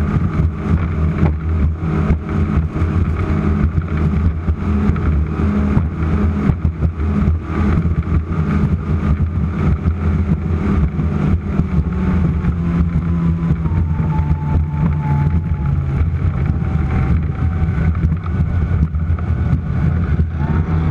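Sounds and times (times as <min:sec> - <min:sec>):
race boat engines at high speed: 0:00.0 - 0:20.9.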